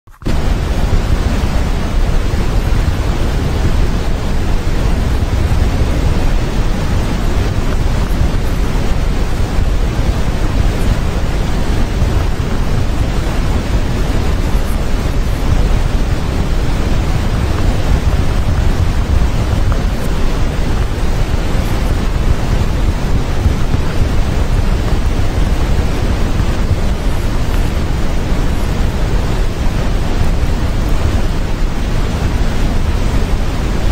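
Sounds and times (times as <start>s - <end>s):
white noise hiss: 0.1s - 33.9s.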